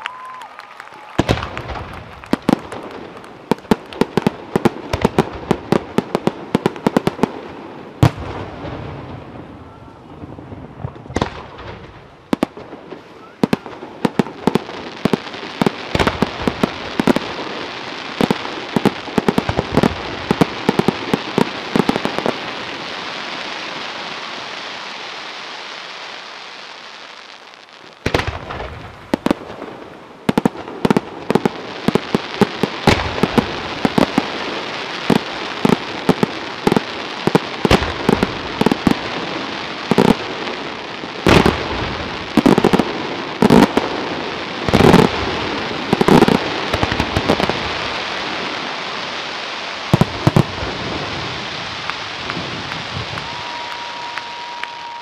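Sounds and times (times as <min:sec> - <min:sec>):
fireworks crackling hiss: 0:00.0 - 0:55.0.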